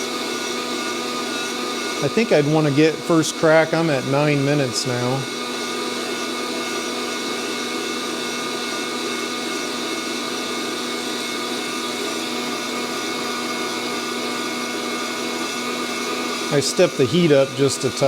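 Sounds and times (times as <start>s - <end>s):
coffee roaster fan hum: 0.0s - 18.0s.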